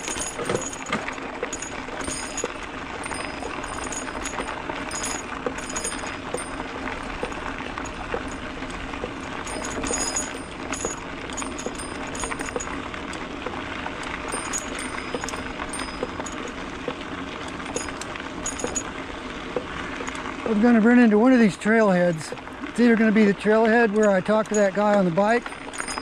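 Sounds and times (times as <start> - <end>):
bicycle bell jingling: 0.0 - 19.1, 23.9 - 26.0
bike rattling: 0.0 - 26.0
tyres crunching on gravel: 0.0 - 26.0.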